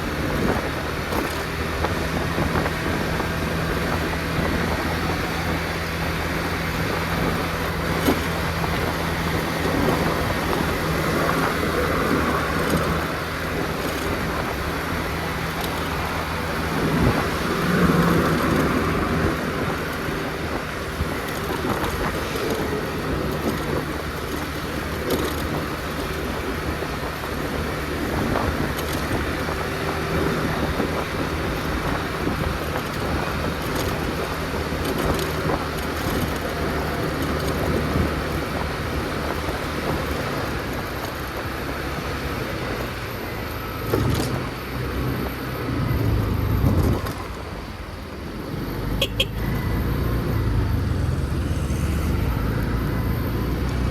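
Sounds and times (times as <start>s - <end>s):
road and tyre noise: 0.0s - 53.9s
scooter engine hum: 0.0s - 53.9s.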